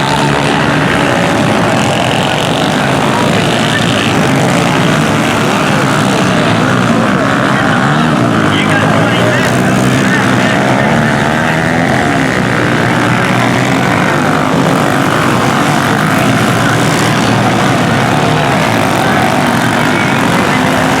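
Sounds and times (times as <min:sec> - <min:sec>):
pit bike engines racing: 0:00.0 - 0:21.0.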